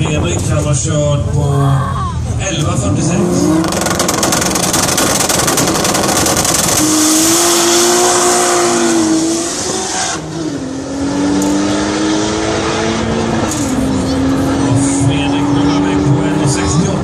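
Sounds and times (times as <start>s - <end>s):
drag cars accelerating: 0.0s - 17.0s.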